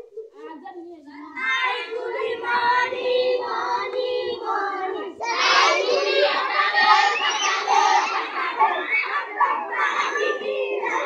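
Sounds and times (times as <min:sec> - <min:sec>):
children singing a chant: 0:01.3 - 0:11.0.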